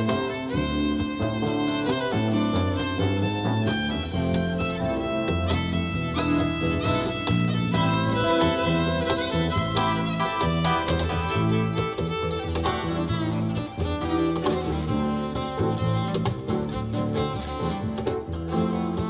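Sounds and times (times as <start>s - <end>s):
fiddle music with bass and beat: 0.0s - 19.0s.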